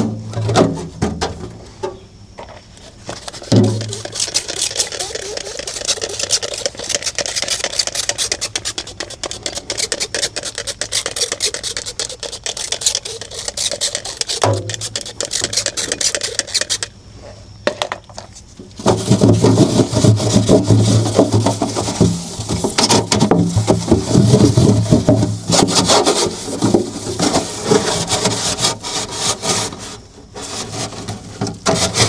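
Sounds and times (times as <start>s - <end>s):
rapid scrubbing of refrigerator: 3.0s - 16.9s, 18.8s - 32.0s.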